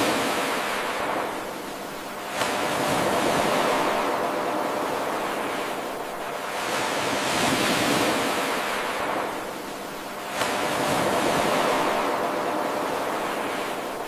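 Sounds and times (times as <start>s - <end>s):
ocean waves surging: 0.0s - 14.0s.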